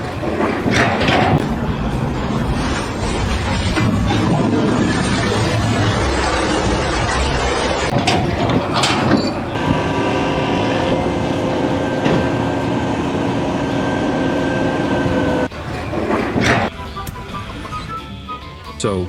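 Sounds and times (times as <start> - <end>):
mechanical running noise: 0.0 - 16.7
knocks and clatters: 0.0 - 17.9
steady held tones: 0.0 - 18.9.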